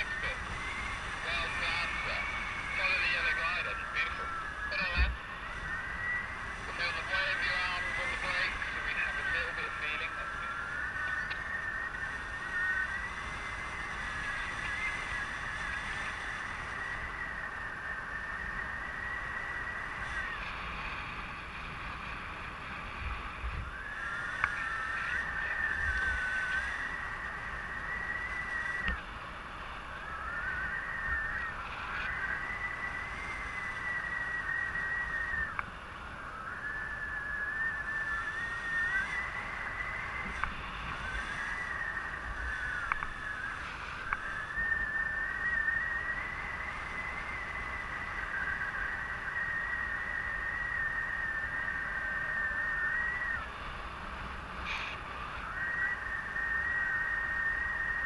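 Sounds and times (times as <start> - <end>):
low wind rumble: 0.0 - 58.0
wavering high whistle: 0.0 - 58.0.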